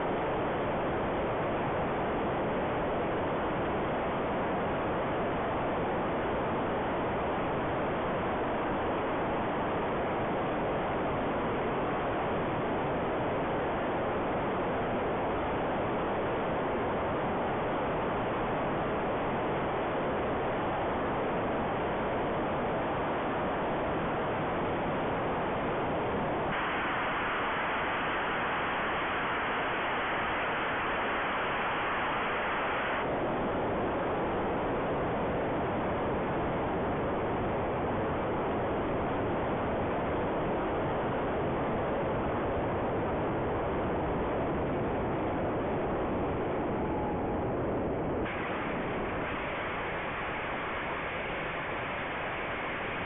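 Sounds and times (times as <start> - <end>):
wind rushing on microphone: 0.0 - 53.0.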